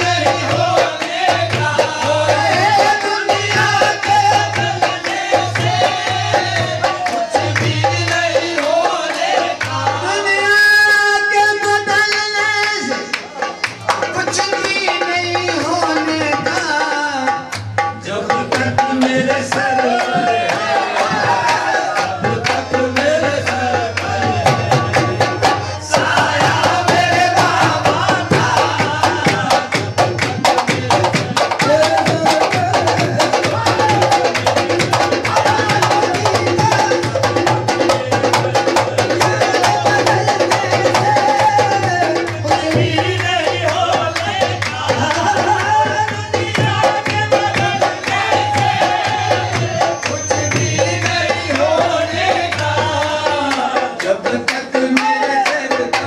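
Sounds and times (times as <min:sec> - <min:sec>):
fast tabla drumming: 0:00.0 - 0:56.0.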